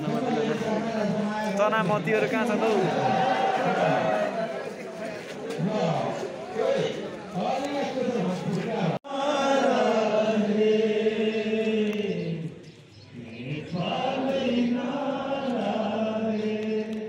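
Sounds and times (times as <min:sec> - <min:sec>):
crowd of men chanting: 0:00.0 - 0:12.6, 0:13.2 - 0:17.0.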